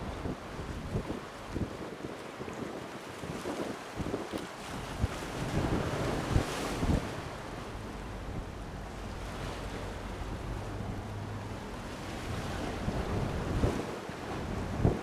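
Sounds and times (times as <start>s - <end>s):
sea waves washing: 0.0s - 15.0s
wind on microphone: 0.0s - 15.0s.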